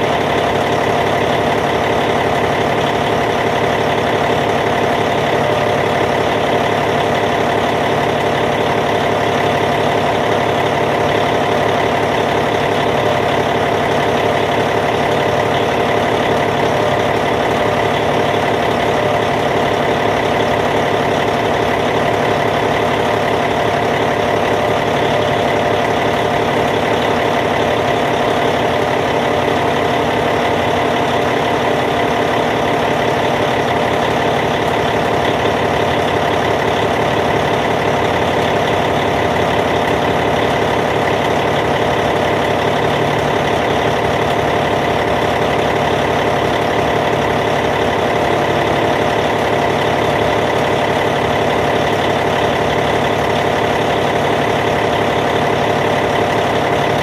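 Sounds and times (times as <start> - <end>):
bulldozer diesel engine idling: 0.0 - 57.0.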